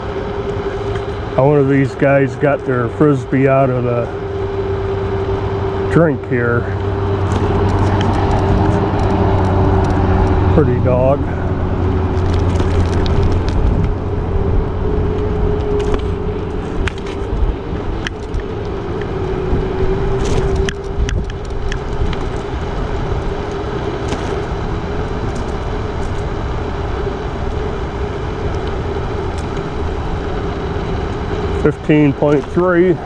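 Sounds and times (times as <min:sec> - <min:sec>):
electric scooter hum: 0:00.0 - 0:33.0
road and air noise: 0:00.0 - 0:33.0.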